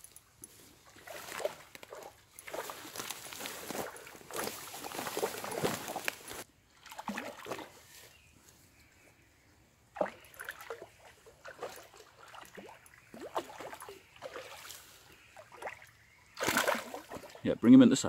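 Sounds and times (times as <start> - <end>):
fish splashing in river: 0.9 - 7.8, 9.9 - 17.4.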